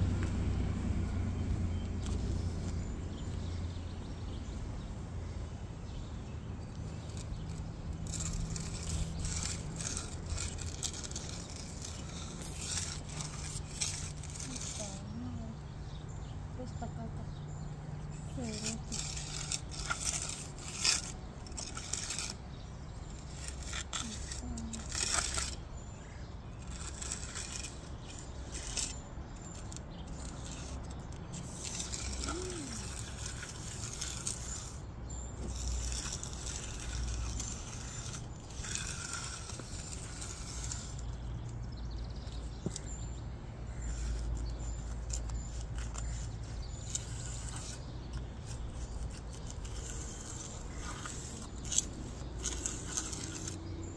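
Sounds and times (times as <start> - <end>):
hand edger scraping concrete: 0.0 - 4.6, 6.3 - 53.9
low steady rumble: 0.0 - 53.9.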